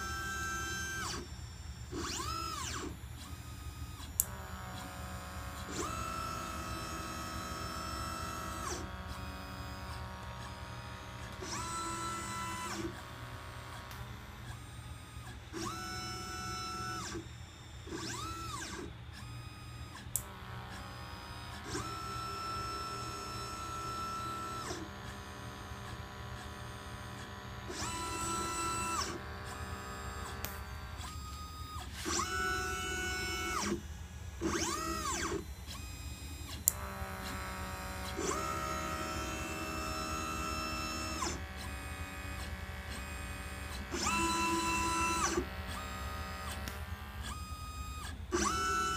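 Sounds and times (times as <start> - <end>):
stepper motors whining: 0.0 - 48.9.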